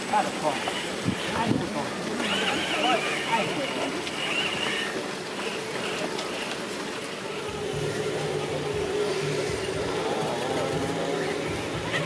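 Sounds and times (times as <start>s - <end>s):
toy truck electric motor whining: 0.0s - 12.0s.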